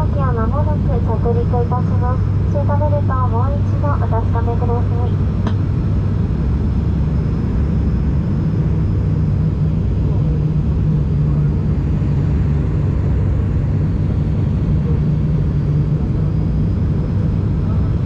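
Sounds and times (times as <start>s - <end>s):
turboprop cabin drone: 0.0s - 18.0s.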